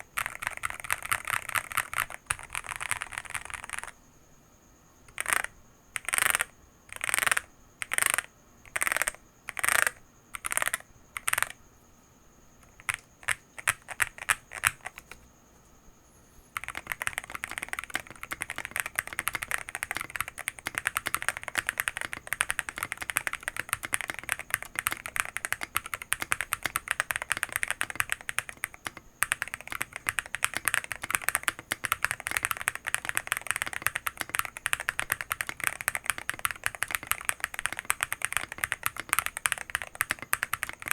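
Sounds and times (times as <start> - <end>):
fast typing on keyboard: 0.0 - 4.0, 5.1 - 11.6, 12.6 - 15.3, 16.6 - 40.9
mechanical keyboard key presses: 0.2 - 3.9, 5.1 - 11.5, 12.6 - 15.2, 16.6 - 40.9.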